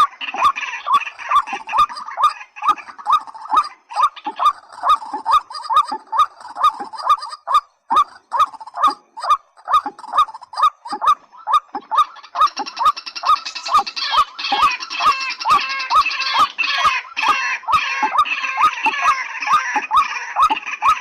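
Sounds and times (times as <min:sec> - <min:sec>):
waterhen calling: 0:00.0 - 0:21.0.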